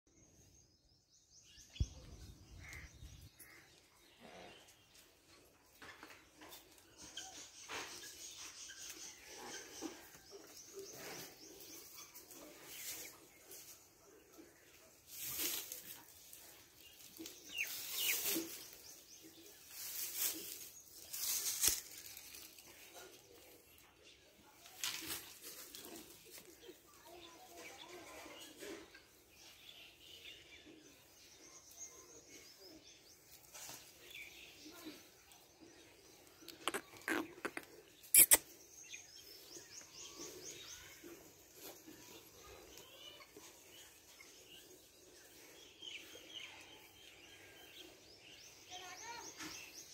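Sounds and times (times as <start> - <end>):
small birds chirping: 0.1 - 49.9
rustling of straw and dirt: 1.8 - 49.9.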